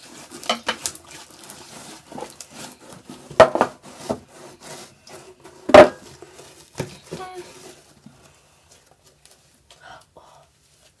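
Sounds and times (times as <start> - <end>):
rubbing and scraping on tabletop: 0.0 - 9.5.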